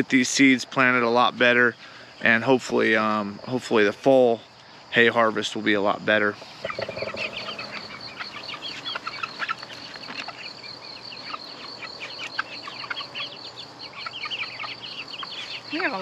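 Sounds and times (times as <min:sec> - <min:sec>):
young chickens peeping: 0:00.9 - 0:16.0.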